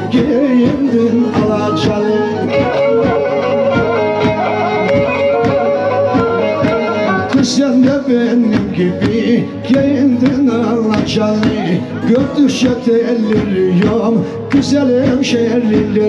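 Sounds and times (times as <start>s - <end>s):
man singing: 0.0s - 4.3s, 6.6s - 16.0s
bowed string folk tune: 0.0s - 16.0s.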